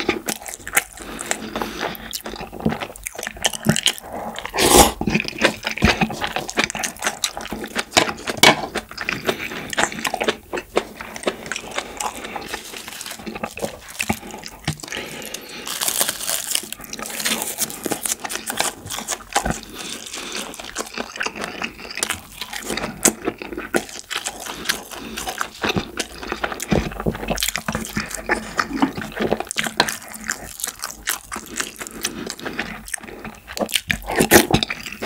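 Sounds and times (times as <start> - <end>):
wet chewing and mouth smacks: 0.0 - 35.0.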